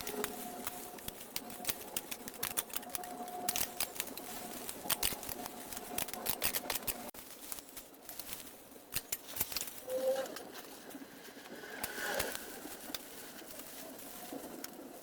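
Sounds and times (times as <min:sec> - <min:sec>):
rapid crackling and clicking: 0:00.0 - 0:15.0.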